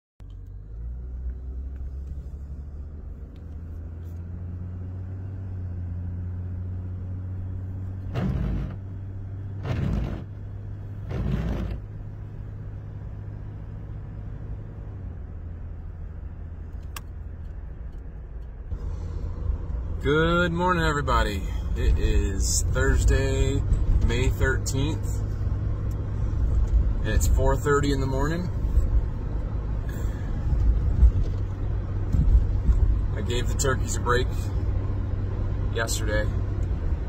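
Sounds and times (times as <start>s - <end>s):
car engine and road noise: 0.2s - 37.0s.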